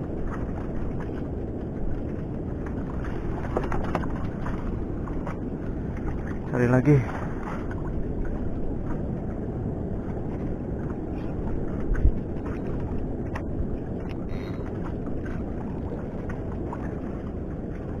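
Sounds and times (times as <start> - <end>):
choppy water: 0.0 - 18.0
wind rumble on microphone: 0.0 - 18.0.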